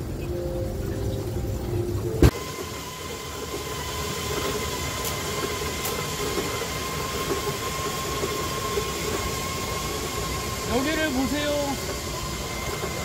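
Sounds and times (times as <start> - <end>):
wheels whining on steel rails: 0.0 - 13.0.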